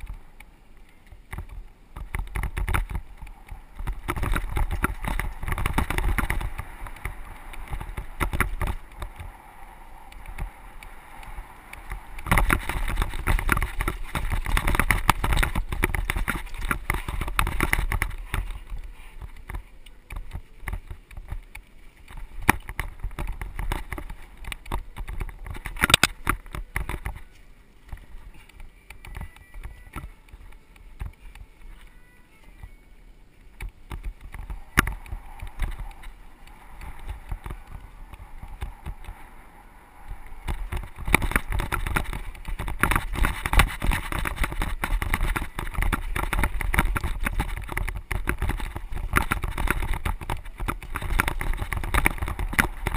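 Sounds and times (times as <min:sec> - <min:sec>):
bike chain and frame rattling: 0:00.0 - 0:32.7, 0:33.4 - 0:52.9
tyres on loose dirt: 0:00.0 - 0:52.9
wind rumble on microphone: 0:00.0 - 0:52.9.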